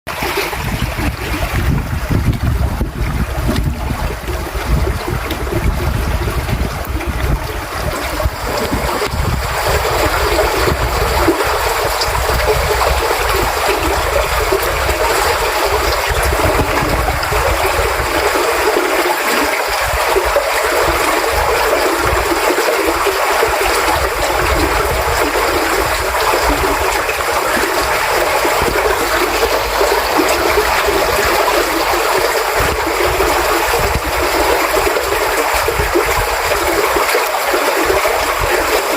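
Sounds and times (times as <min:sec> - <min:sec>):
creek water rushing: 0:00.1 - 0:38.9
wind rumble on microphone: 0:00.1 - 0:38.9.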